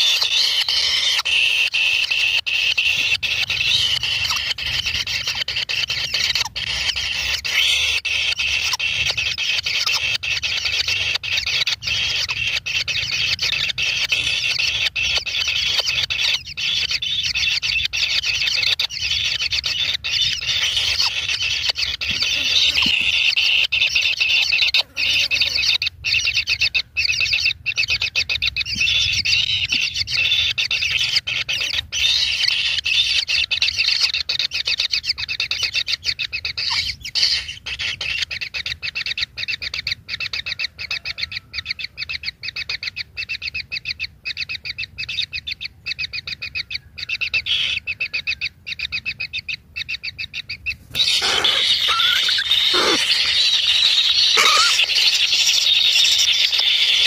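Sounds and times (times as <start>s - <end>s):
nestlings begging calls: 0.0s - 57.0s.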